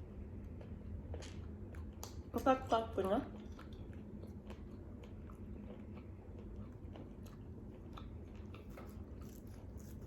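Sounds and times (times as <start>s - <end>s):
faint low hum: 0.0s - 10.0s
chewing and biting: 0.4s - 2.4s, 3.3s - 10.0s.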